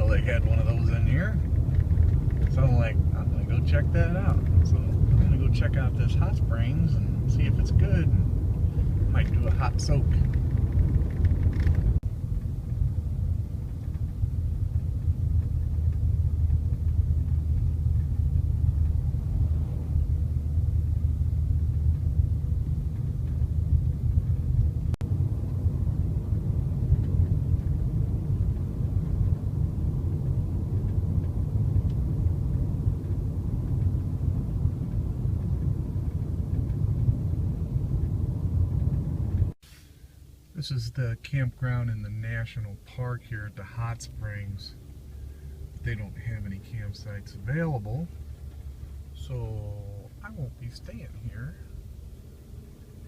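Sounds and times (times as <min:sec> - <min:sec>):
vehicle driving rumble: 0:00.0 - 0:53.0.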